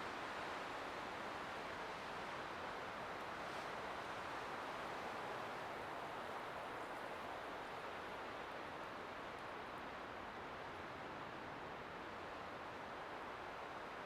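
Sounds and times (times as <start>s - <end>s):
wind through pine trees: 0.0s - 14.0s.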